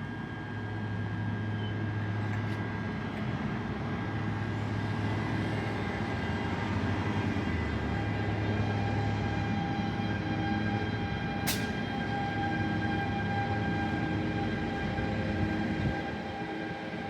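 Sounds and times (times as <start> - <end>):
train low drone: 0.0 - 17.0.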